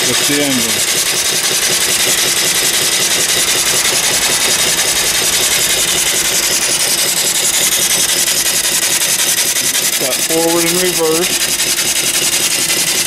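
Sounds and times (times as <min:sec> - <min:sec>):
steam engine exhaust beats: 0:00.0 - 0:13.0
hiss of venting steam: 0:00.3 - 0:13.0.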